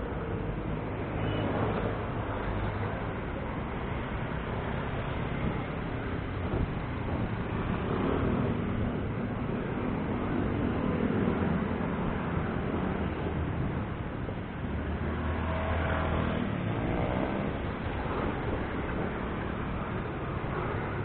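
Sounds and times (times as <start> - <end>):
road traffic passing close: 0.0 - 21.0
vehicle engine hum: 0.0 - 21.0.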